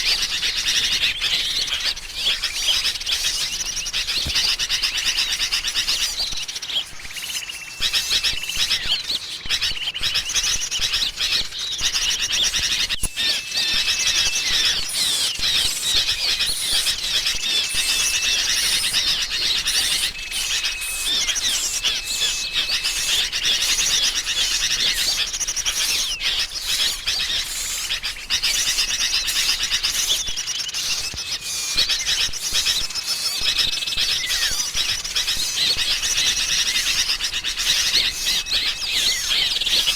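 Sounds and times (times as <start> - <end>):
birds chattering and chirping: 0.0 - 39.9.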